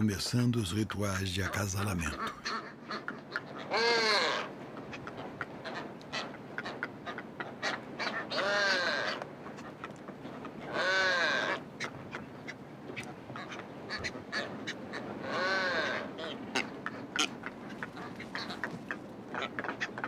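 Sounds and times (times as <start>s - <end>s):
seabirds honking calls: 0.0s - 20.0s.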